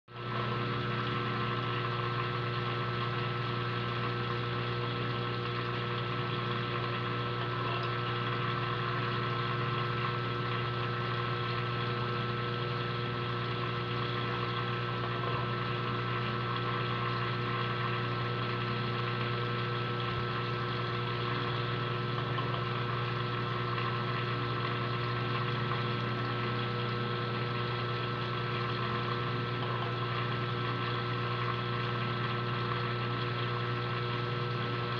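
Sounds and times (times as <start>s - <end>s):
aquarium pump humming: 0.1s - 34.9s.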